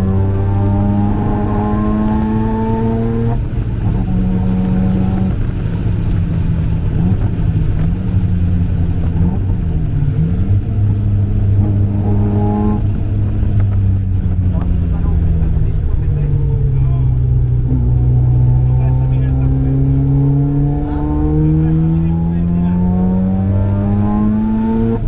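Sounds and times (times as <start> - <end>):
rotary engine revving: 0.0 - 25.0.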